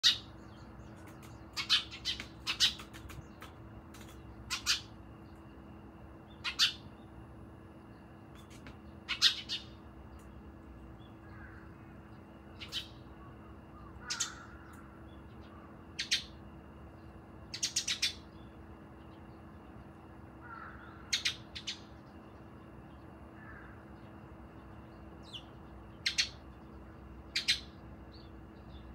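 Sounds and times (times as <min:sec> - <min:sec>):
sparrows chirping: 0:00.0 - 0:28.9.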